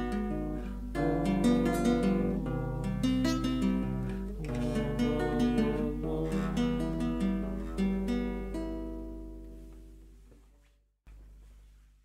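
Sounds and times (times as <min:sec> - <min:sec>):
acoustic guitar melody: 0:00.0 - 0:10.4.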